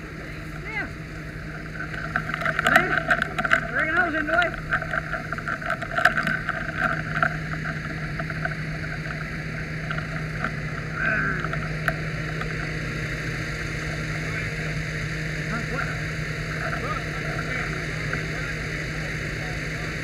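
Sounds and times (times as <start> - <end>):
faint voices: 0.0 - 9.3, 9.9 - 12.9, 13.5 - 20.0
fire engine running: 0.0 - 20.0.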